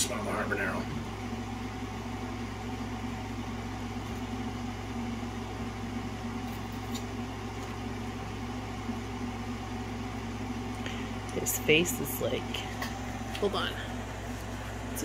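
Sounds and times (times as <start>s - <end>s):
appliance humming: 0.0s - 15.0s.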